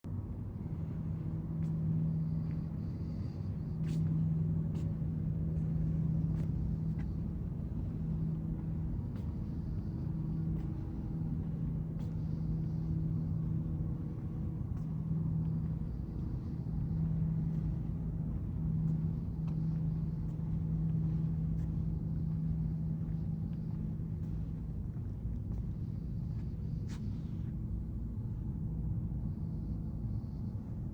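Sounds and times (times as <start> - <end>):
low rumble: 0.0 - 30.9
machine hum: 0.0 - 30.9.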